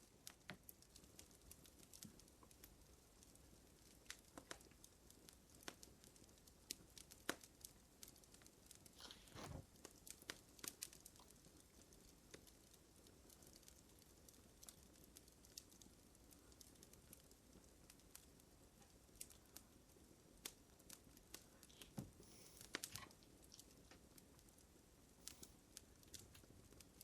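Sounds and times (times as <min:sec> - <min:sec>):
fire crackling: 0:00.0 - 0:27.0
fire popping: 0:00.0 - 0:27.0.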